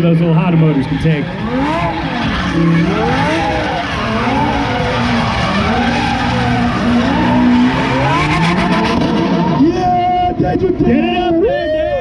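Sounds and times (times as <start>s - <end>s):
tyres skidding: 0.0s - 11.0s
car engines revving: 0.0s - 12.0s.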